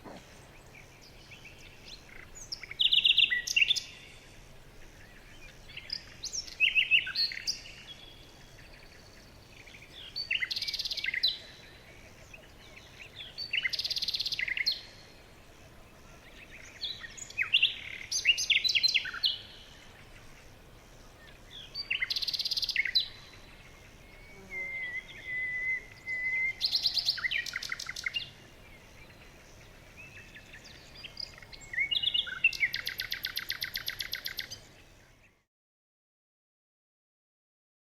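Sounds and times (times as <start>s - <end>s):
birds chirping and trilling: 0.0s - 35.4s
faint background hiss: 0.0s - 35.5s.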